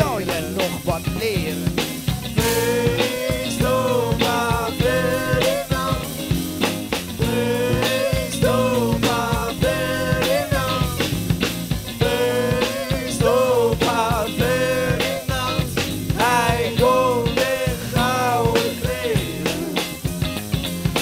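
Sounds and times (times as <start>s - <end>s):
bass line: 0.0s - 21.0s
steady drum beat: 0.0s - 21.0s.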